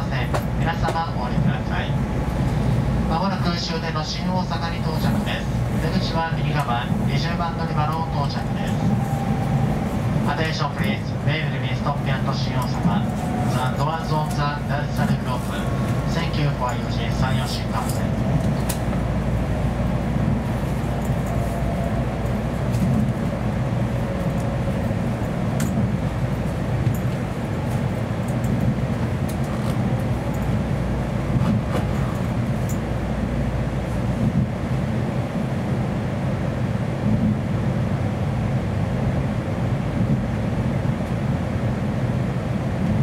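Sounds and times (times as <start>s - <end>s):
train rumbling inside passenger car: 0.0s - 43.0s.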